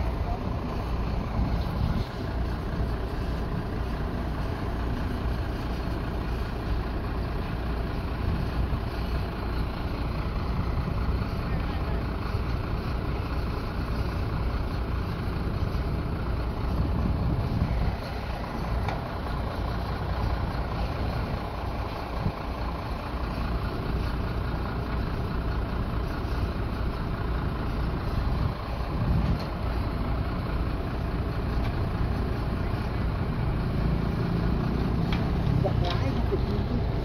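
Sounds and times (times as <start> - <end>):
diesel truck engine rumbling: 0.0 - 37.0.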